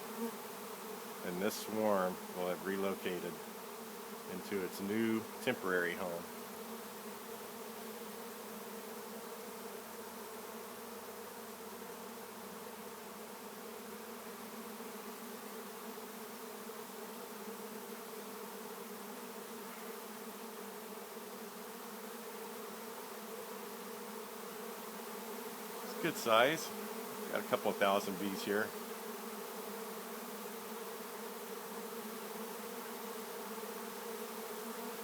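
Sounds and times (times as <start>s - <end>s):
bee swarm buzzing: 0.0s - 35.0s.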